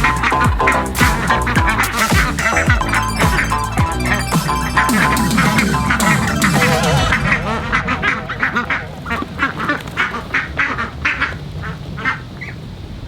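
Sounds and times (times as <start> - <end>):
ducks quacking: 0.0 - 12.6.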